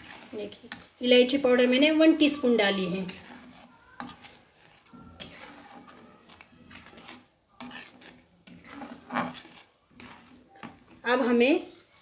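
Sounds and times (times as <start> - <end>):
metal spatula scraping metal pan: 0.0 - 12.0.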